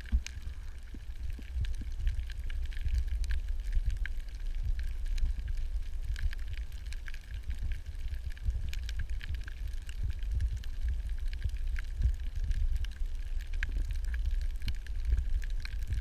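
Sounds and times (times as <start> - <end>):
sharp clicks and crackles: 0.0 - 16.0
underwater churning rumble: 0.0 - 16.0.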